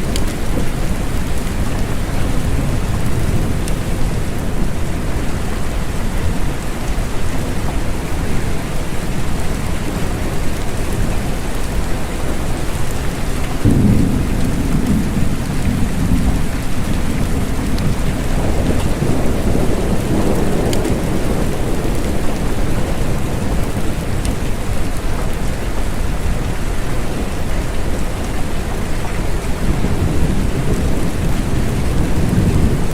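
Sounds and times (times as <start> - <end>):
rain falling: 0.0 - 32.9
thunder rumbling: 0.0 - 32.9.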